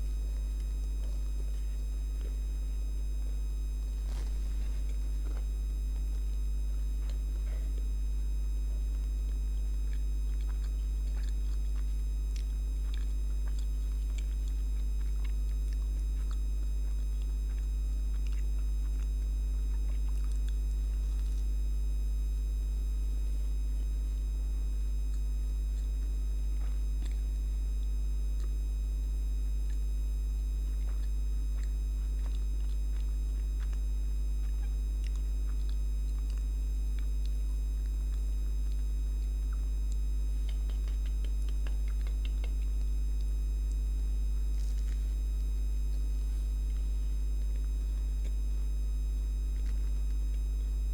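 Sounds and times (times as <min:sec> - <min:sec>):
faint chewing ticks: 0:00.0 - 0:50.9
light fixture electrical buzz: 0:00.0 - 0:50.9.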